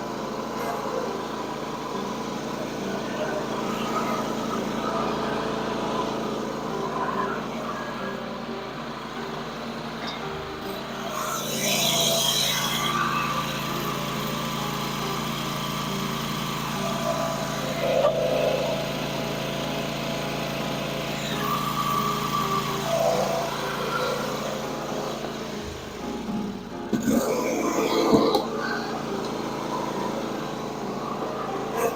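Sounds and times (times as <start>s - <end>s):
lawn mower engine running: 0.0s - 31.9s.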